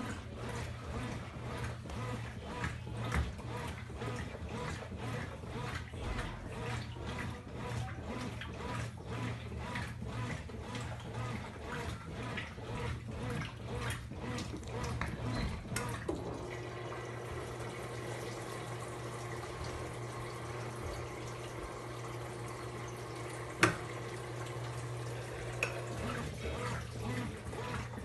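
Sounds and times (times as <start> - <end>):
washing machine running: 0.0 - 28.0
water splashing in tub: 0.0 - 28.0.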